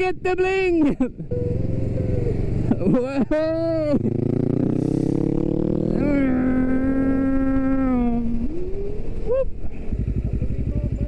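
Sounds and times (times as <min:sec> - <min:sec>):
motorcycle engine accelerating: 0:01.2 - 0:11.0.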